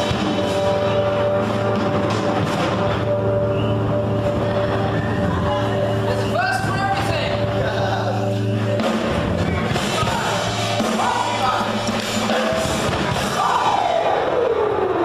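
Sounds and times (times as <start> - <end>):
rock music with electric guitar: 0.0 - 14.4.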